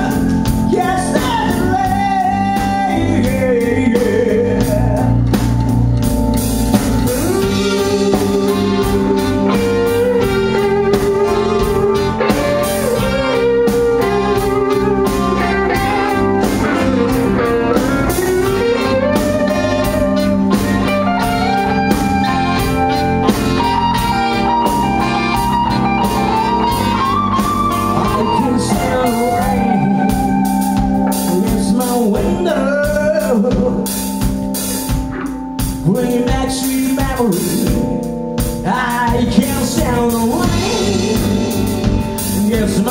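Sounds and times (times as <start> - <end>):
band playing soul-rock: 0.0 - 42.9
sliding lead melody: 0.0 - 42.9.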